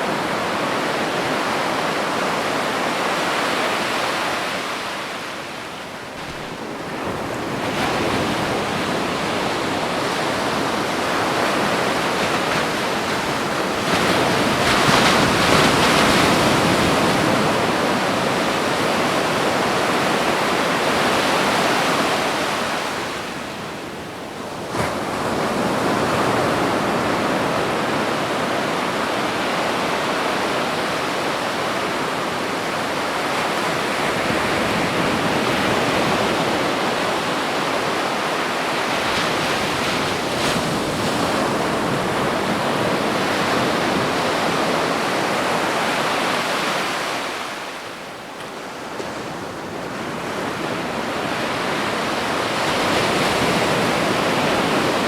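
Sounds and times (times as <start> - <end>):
ocean waves washing onto beach: 0.0 - 55.0.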